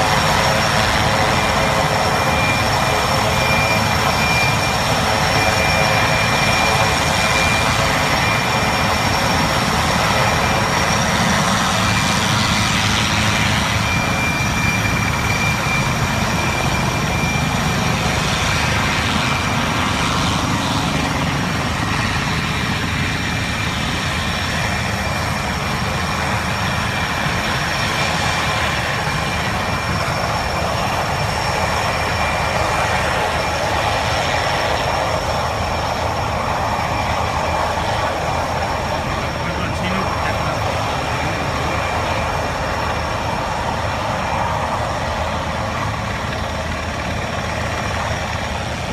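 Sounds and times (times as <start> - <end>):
helicopter engines and rotors: 0.0 - 48.9.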